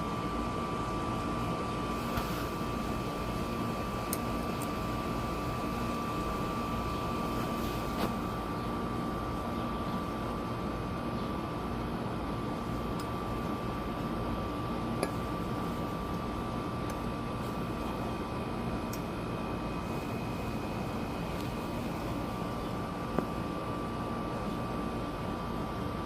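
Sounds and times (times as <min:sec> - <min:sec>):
steady background hum: 0:00.0 - 0:26.0
thin constant whine: 0:00.0 - 0:26.0.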